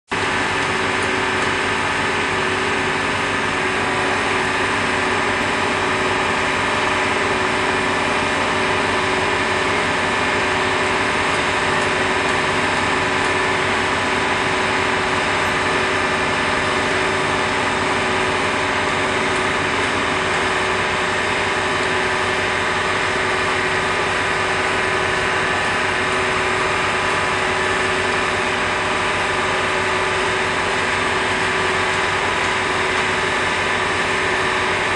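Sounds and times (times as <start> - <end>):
machinery engine idling: 0.2 - 34.9.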